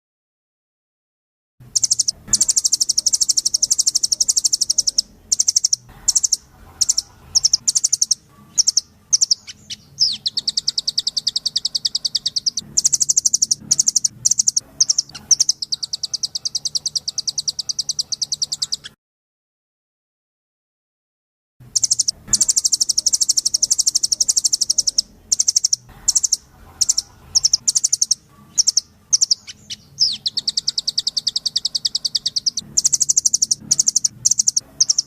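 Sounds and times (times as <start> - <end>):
songbird trilling: 1.8 - 19.0, 21.7 - 35.0.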